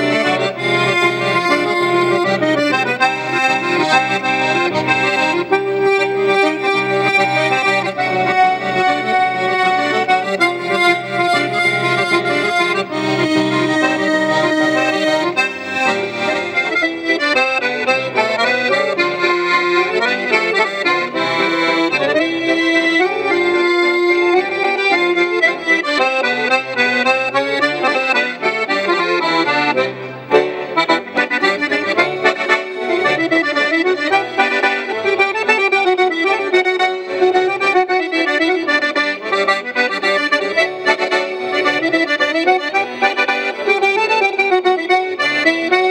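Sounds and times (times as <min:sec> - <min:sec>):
accordion duet: 0:00.0 - 0:45.9.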